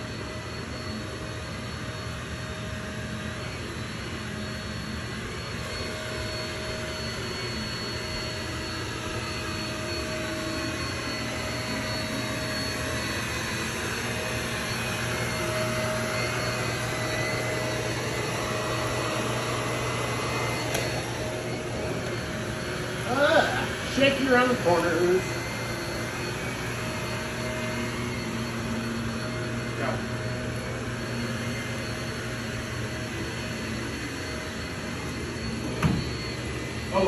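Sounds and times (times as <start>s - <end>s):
vacuum cleaner motor humming: 0.0s - 37.0s.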